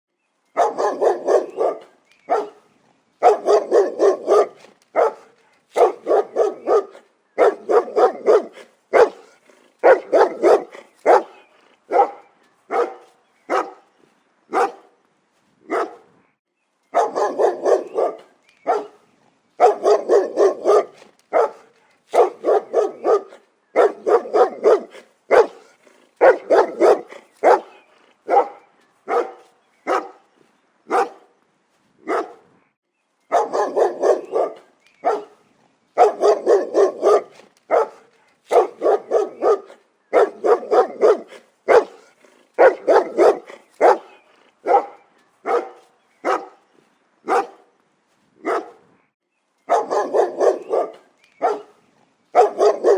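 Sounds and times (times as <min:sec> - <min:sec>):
dog barking: 0:00.6 - 0:13.8, 0:14.5 - 0:15.0, 0:15.7 - 0:16.1, 0:16.9 - 0:19.0, 0:19.6 - 0:30.2, 0:30.9 - 0:31.3, 0:32.0 - 0:32.5, 0:33.3 - 0:35.4, 0:36.0 - 0:46.6, 0:47.2 - 0:47.8, 0:48.4 - 0:48.9, 0:49.7 - 0:52.9.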